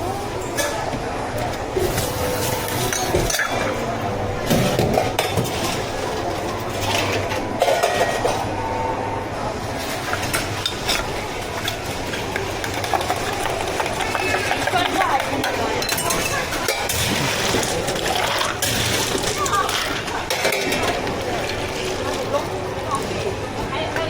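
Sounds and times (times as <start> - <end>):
cups and utensils clinking: 1.8 - 8.5, 10.0 - 23.3.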